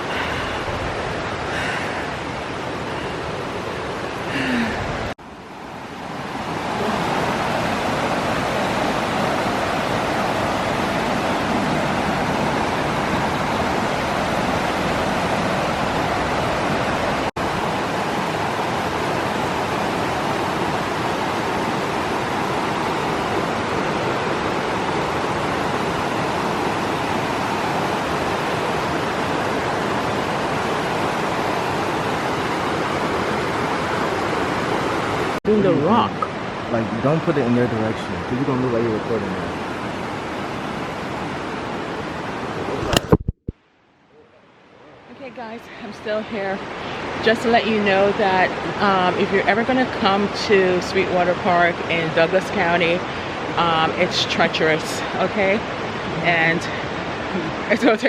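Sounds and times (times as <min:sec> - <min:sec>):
creek water rushing over rocks: 0:00.0 - 0:43.3, 0:45.4 - 0:58.0.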